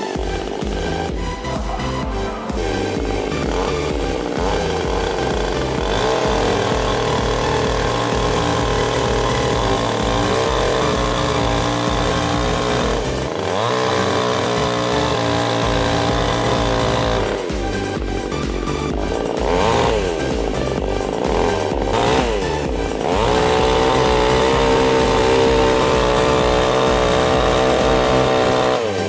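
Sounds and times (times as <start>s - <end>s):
chainsaw cutting through log: 0.0s - 29.0s.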